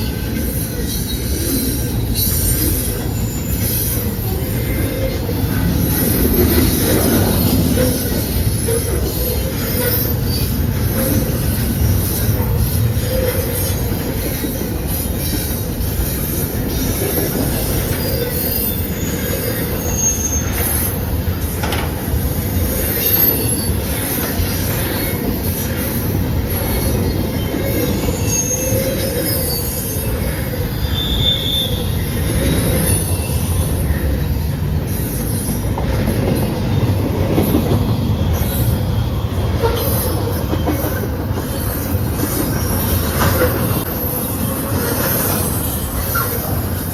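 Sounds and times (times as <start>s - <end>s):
high wheel squeals: 0.0s - 46.9s
train wheels rumbling on rail: 0.0s - 46.9s.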